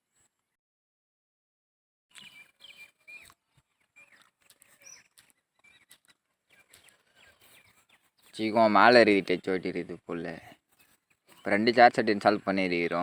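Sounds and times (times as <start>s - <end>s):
faint bird chirps: 2.1s - 12.9s.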